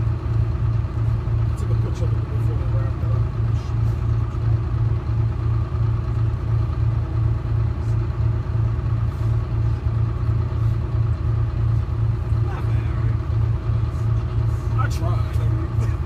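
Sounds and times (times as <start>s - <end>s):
bus diesel engine throbbing: 0.0s - 16.0s.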